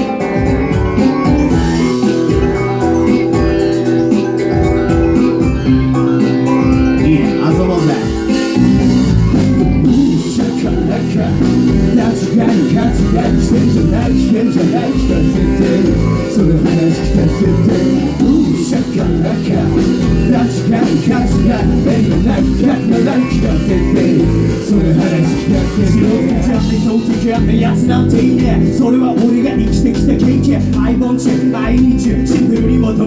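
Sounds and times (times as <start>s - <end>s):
lead guitar: 0.0s - 33.0s
rock band playing: 0.0s - 33.0s.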